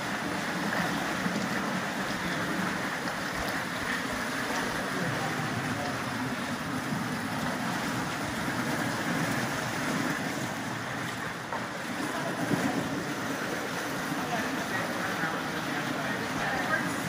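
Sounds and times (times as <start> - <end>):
river flowing over rocks: 0.0 - 17.0.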